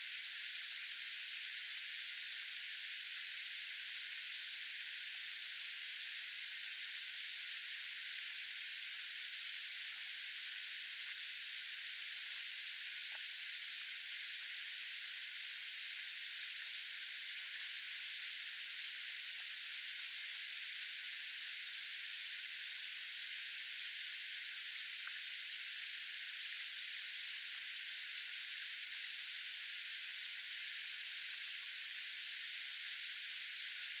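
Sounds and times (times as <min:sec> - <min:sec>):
high-pitched steady hiss: 0:00.0 - 0:34.0.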